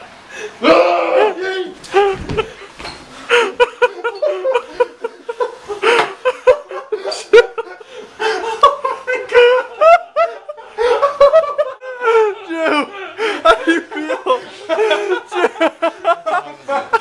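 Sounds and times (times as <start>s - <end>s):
people laughing and snickering: 0.5s - 17.0s.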